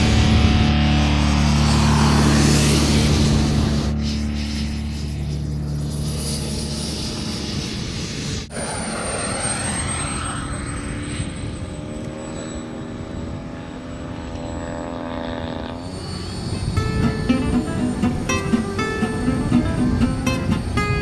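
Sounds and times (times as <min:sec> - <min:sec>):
model jet turbine whining: 0:01.3 - 0:18.2.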